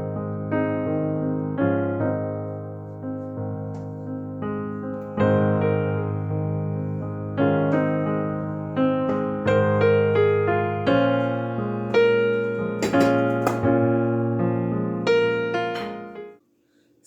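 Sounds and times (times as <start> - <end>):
slow electric piano chords: 0.0 - 16.4.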